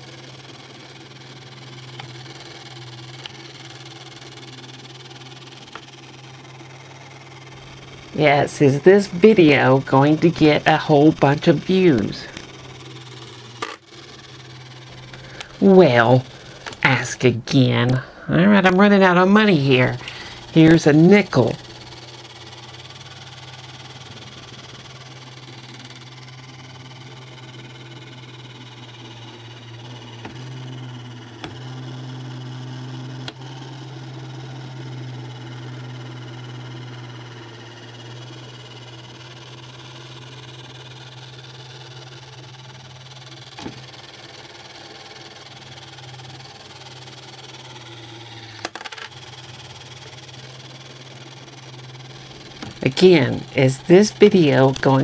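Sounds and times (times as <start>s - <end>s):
toy motor whirring: 0.0s - 55.0s.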